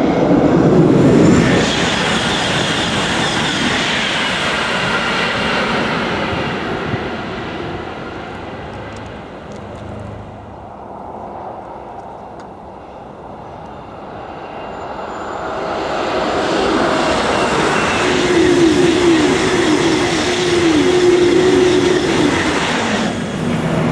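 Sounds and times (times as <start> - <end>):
high-speed train rushing past: 0.0 - 23.9.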